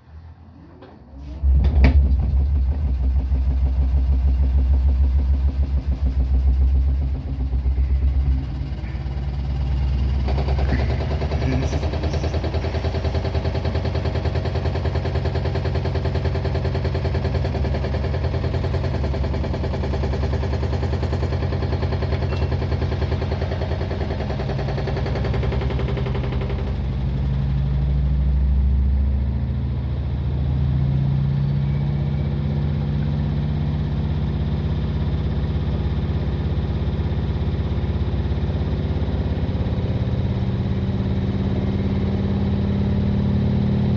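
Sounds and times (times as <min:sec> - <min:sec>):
washing machine motor hum: 0:00.0 - 0:43.9.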